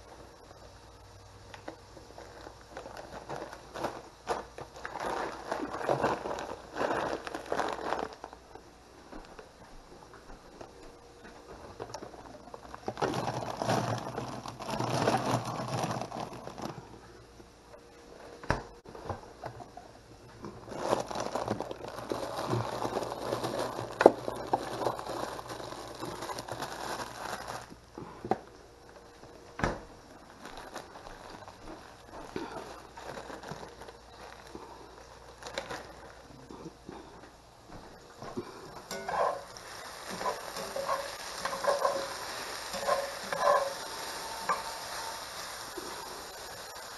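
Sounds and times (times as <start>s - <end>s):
plastic bags crinkling: 1.5s - 9.5s, 10.5s - 17.1s, 18.3s - 37.1s, 37.9s - 46.9s.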